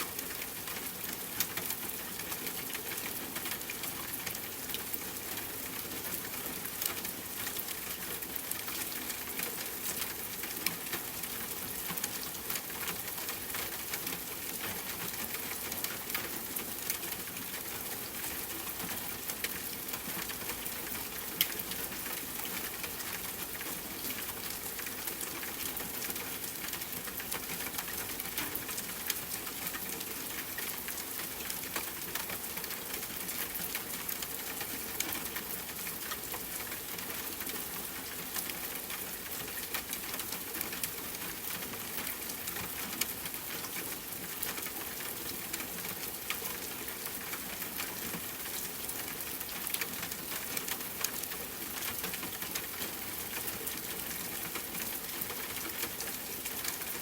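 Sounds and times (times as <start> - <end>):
soft rainfall: 0.0 - 57.0.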